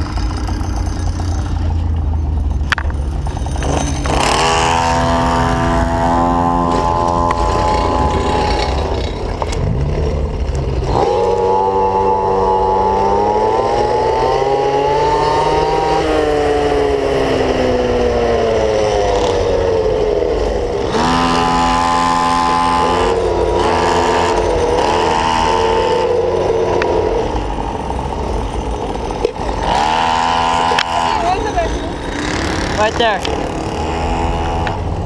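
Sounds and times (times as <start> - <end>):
small two-stroke engine revving: 2.7 - 35.0.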